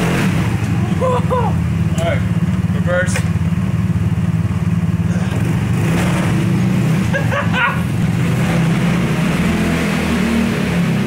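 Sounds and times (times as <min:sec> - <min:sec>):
go-kart engines droning: 0:00.0 - 0:11.0.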